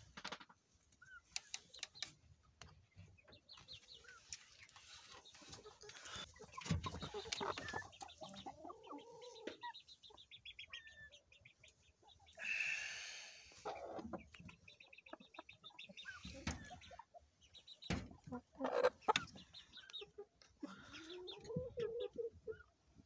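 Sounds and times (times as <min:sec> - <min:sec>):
chickens clucking: 0:00.4 - 0:12.6, 0:13.5 - 0:23.0
high chick peeps: 0:00.9 - 0:22.8.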